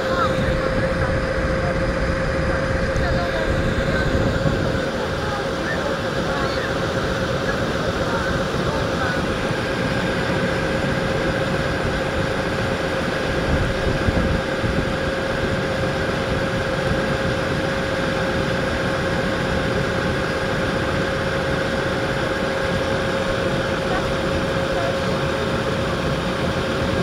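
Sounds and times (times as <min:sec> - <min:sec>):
ship engine droning: 0:00.0 - 0:27.0
wind noise on microphone: 0:00.0 - 0:27.0.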